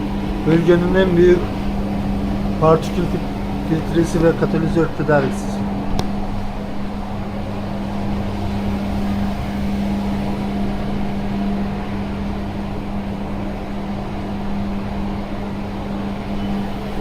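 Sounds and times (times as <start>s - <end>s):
machinery hum: 0.0s - 17.0s
rushing noise: 0.0s - 17.0s.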